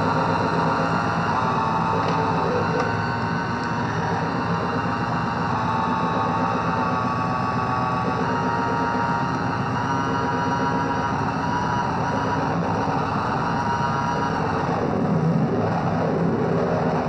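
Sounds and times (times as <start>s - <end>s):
noisy electronic drone: 0.0s - 17.0s.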